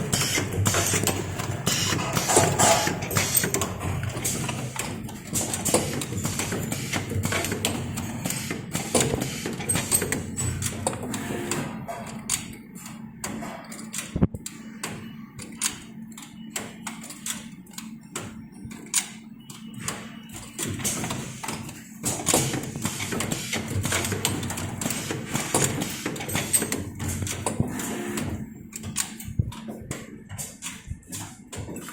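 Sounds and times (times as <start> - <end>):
machine clacking and knocking: 0.0 - 14.2, 14.8 - 31.9.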